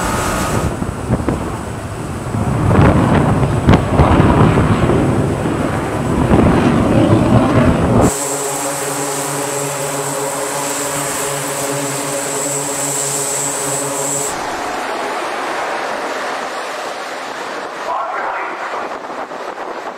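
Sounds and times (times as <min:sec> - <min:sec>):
loud rushing noise: 0:00.0 - 0:19.9
turboprop engines running: 0:00.0 - 0:19.9.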